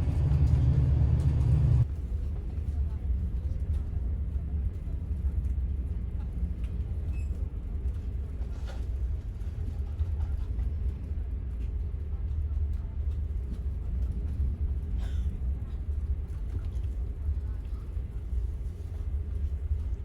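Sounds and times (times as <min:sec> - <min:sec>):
ferry engine low rumble: 0:00.0 - 0:20.0.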